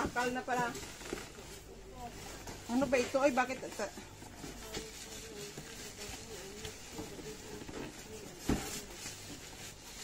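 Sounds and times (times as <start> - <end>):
cardboard and packing rustling: 0.0 - 10.0.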